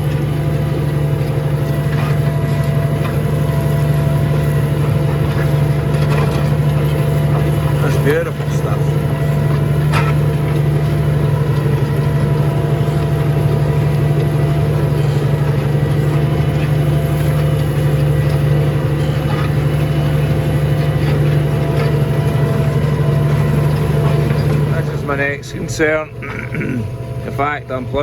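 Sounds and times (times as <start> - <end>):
tractor engine drone: 0.0 - 28.0.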